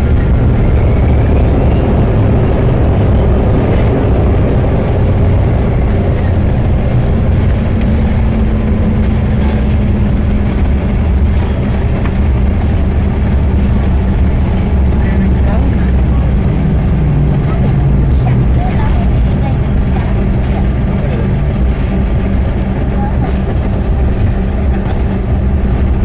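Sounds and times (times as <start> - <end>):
faint engine tone: 0.0 - 26.0
jet cabin rumble: 0.0 - 26.0.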